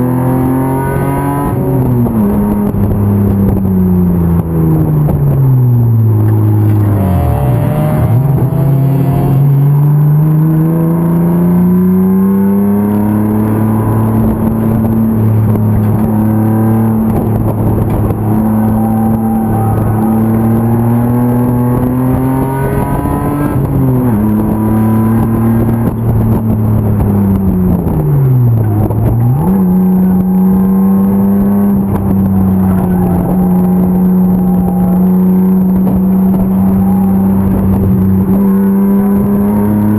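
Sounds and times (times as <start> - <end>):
racing engine pulling hard: 0.0 - 39.9.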